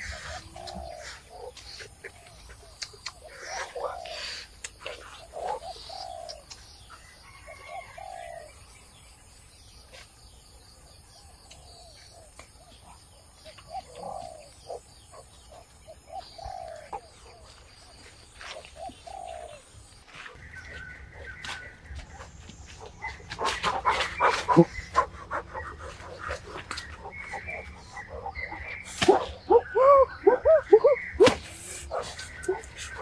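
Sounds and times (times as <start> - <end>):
birds with short low calls: 0.0 - 8.6, 11.2 - 33.0.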